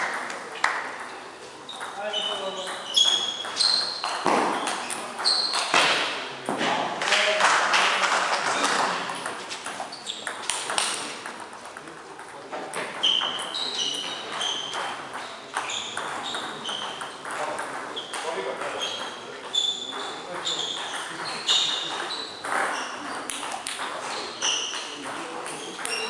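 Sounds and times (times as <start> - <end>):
table tennis ball pings: 0.0 - 6.2, 8.6 - 26.0
voices in a hall: 0.0 - 26.0.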